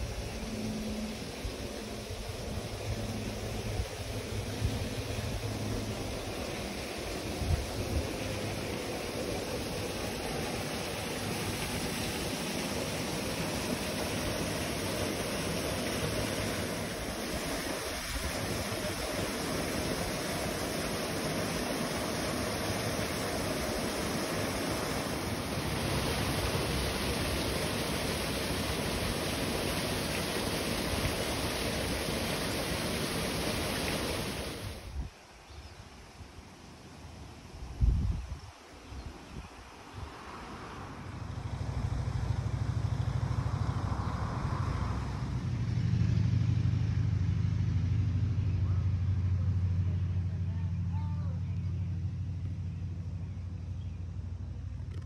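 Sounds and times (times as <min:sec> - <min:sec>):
water rushing through flume: 0:00.0 - 0:35.4, 0:37.0 - 0:50.9.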